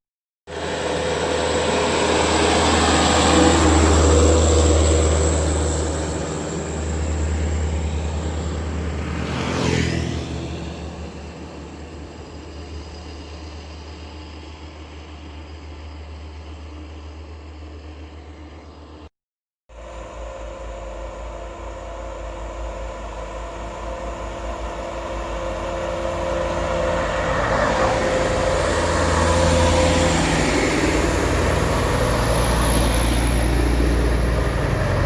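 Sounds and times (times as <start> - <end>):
bus diesel engine labouring: 0.5 - 19.1, 21.3 - 35.0
whoosh of bus passing: 0.5 - 19.1, 21.6 - 35.0.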